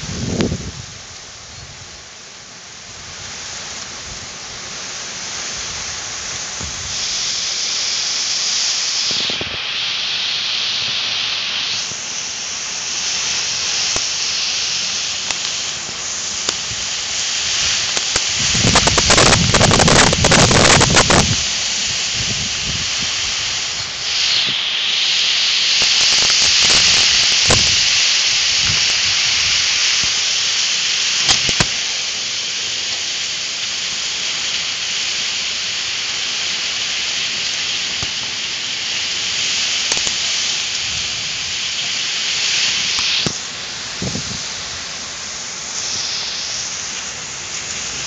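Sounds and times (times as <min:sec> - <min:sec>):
heavy rain and wind: 0:00.0 - 0:48.0.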